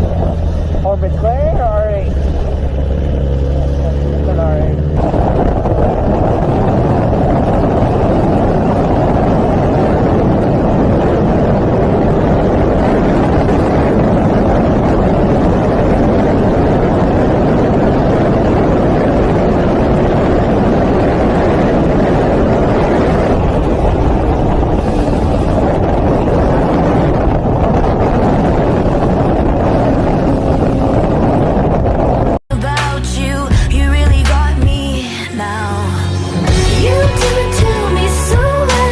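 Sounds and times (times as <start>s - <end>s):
motorcycle engine: 0.0s - 32.4s, 33.2s - 38.9s
wind rush: 0.0s - 32.4s, 33.3s - 38.9s.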